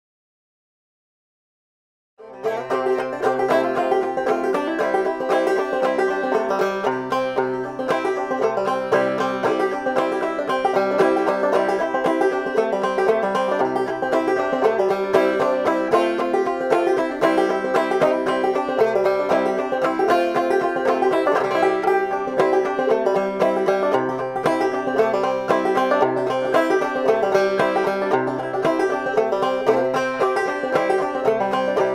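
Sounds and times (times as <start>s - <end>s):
bluegrass banjo music: 2.2s - 31.9s
steady bass line: 2.8s - 31.9s.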